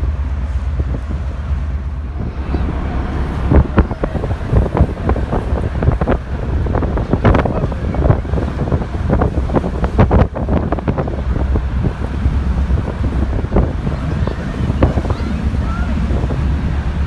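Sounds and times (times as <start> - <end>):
ferry low rumble: 0.0 - 17.0
wind buffeting microphone: 0.0 - 17.0.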